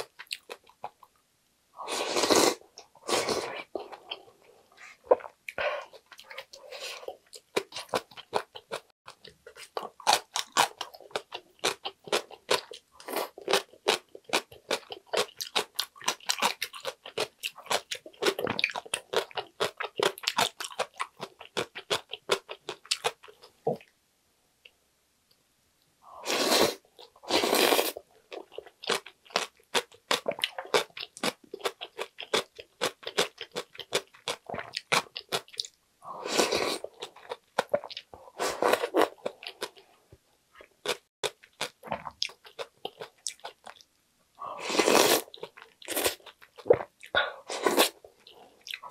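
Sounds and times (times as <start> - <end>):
crunchy chewing and mouth clicks: 0.0 - 1.2, 5.0 - 23.9, 27.0 - 39.9, 40.6 - 43.9, 44.6 - 48.9.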